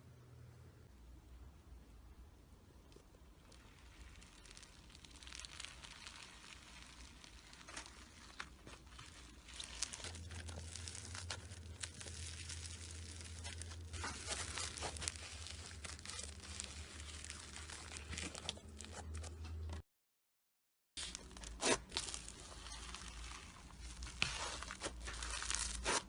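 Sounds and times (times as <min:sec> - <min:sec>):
slime crackling and popping: 0:02.9 - 0:19.4, 0:21.0 - 0:26.0.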